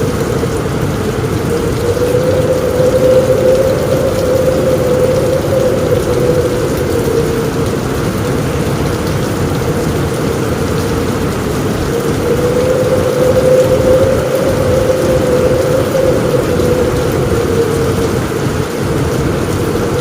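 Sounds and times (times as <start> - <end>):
heavy rain on a roof: 0.0 - 20.0.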